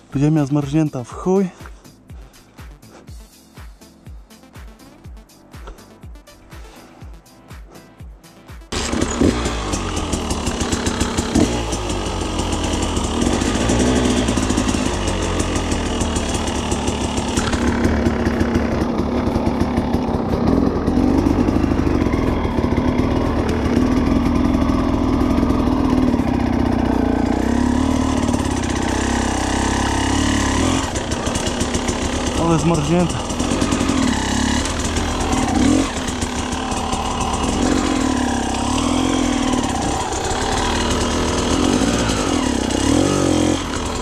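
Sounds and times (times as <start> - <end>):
motorcycle engine at low revs: 8.7 - 44.0.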